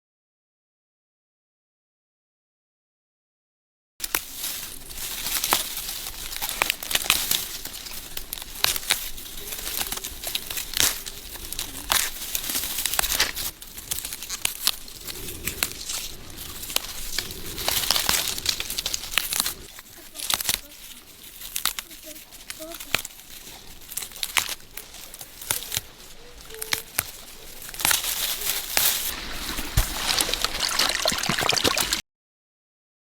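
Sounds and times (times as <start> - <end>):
dry leaf litter rustling: 4.0 - 32.0.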